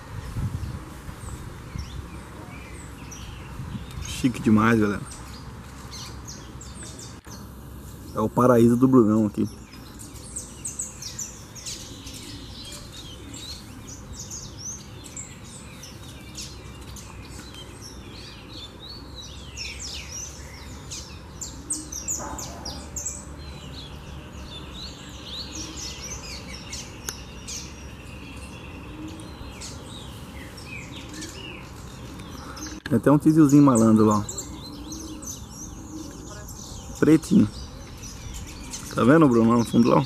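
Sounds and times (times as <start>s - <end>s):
flock of finches chirping: 0.0s - 40.0s.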